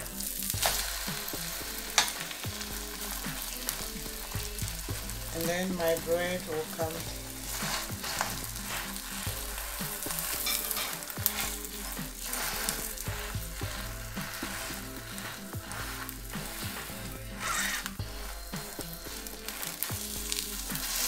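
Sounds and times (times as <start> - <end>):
omelette sizzling in oil: 0.0 - 21.0.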